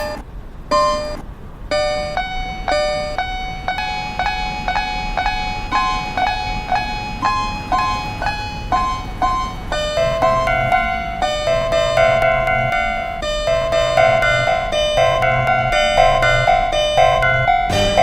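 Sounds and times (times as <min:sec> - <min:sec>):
level crossing warning bell: 0:00.0 - 0:18.0.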